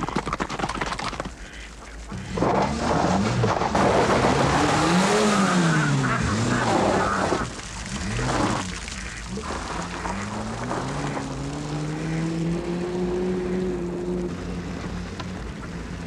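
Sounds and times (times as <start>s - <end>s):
tyres on gravel: 0.0s - 16.0s
car engine revving: 2.1s - 16.0s.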